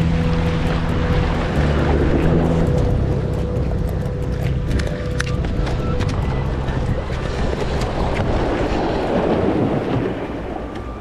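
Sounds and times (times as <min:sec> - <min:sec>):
low rumble: 0:00.0 - 0:11.0
surf washing against rocks: 0:00.0 - 0:11.0.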